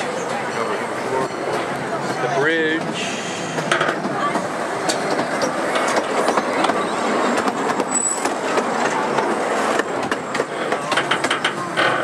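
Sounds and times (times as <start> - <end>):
train cars rumbling on track: 0.0 - 12.0.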